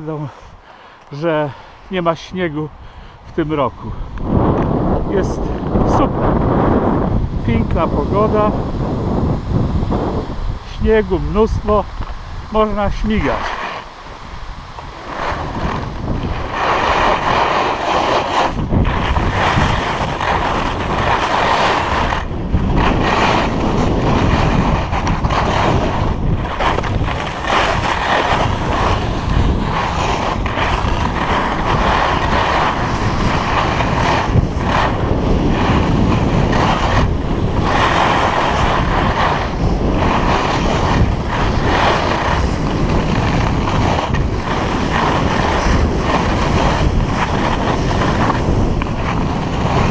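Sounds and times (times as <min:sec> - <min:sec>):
skis scraping over snow: 0:00.0 - 0:49.9
wind rushing over microphone: 0:00.0 - 0:49.9.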